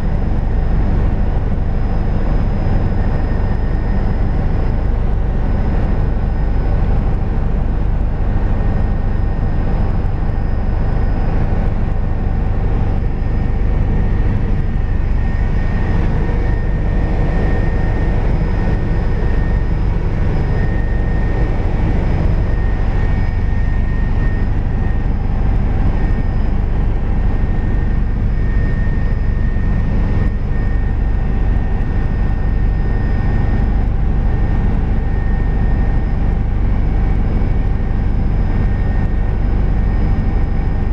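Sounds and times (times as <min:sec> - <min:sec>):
helicopter rotor drone: 0:00.0 - 0:40.9.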